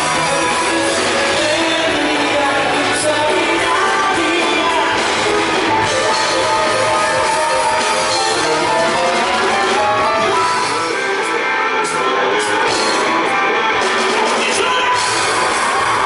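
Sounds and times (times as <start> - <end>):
electric guitar: 0.0 - 16.0
person singing: 0.0 - 16.0
rock band playing live: 0.0 - 16.0.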